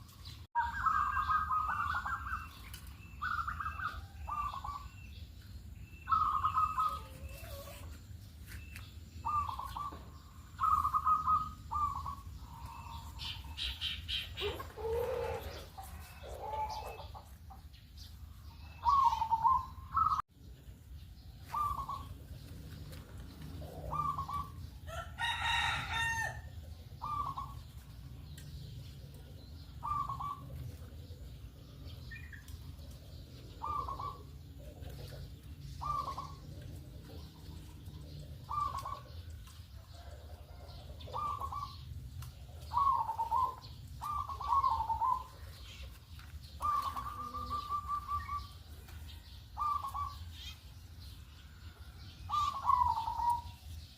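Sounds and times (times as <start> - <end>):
doves cooing: 0.0 - 5.0, 6.0 - 8.0, 9.2 - 17.4, 18.2 - 20.2, 21.4 - 26.3, 27.0 - 27.8, 28.9 - 41.8, 42.4 - 49.0, 49.6 - 50.3, 52.3 - 53.6.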